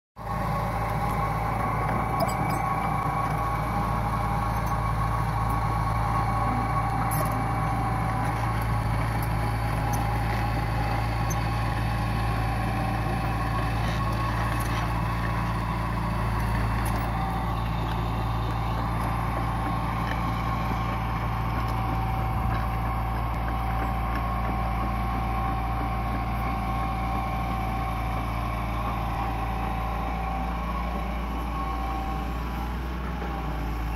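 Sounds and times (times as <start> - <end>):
excavator diesel engine running: 0.2 - 33.9.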